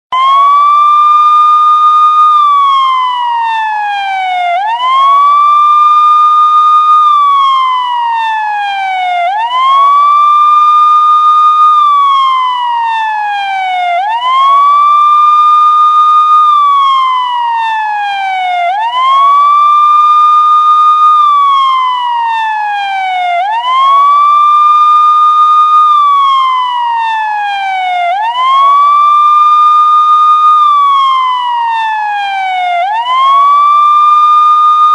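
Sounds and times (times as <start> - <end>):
police siren wailing: 0.1 - 34.9.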